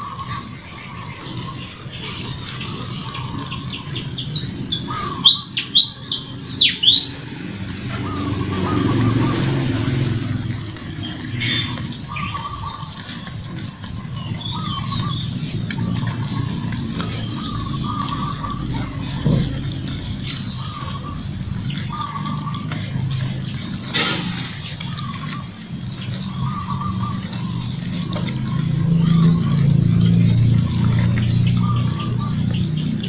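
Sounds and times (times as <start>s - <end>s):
high insect whine: 0.0s - 33.0s
puppies eating off a metal tray: 0.0s - 33.0s
small birds chirping: 0.0s - 33.0s.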